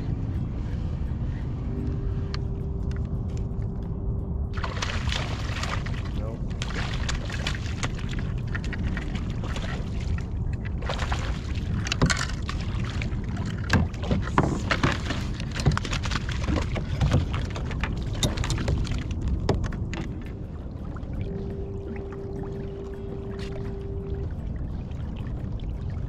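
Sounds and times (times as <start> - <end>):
low rumble of wind and water: 0.0 - 26.0
water splashing beside a kayak: 4.5 - 26.0.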